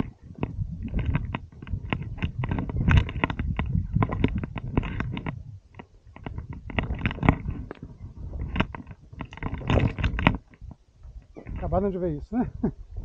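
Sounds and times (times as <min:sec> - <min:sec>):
stones clattering: 0:00.0 - 0:10.6.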